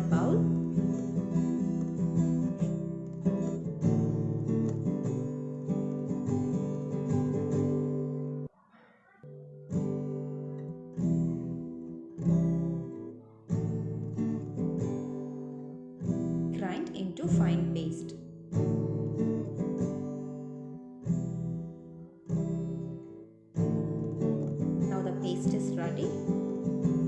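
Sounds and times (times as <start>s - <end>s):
acoustic guitar strumming chords: 0.0s - 8.5s, 9.2s - 27.0s.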